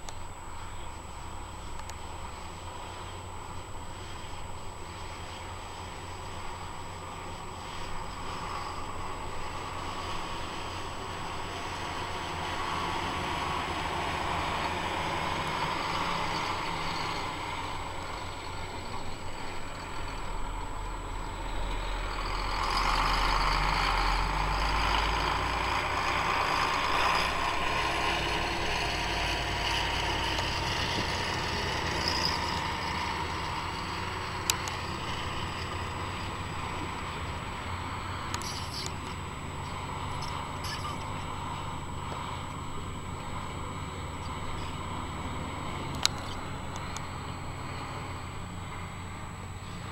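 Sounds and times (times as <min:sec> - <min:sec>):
harvesting machinery running: 0:00.0 - 0:49.9.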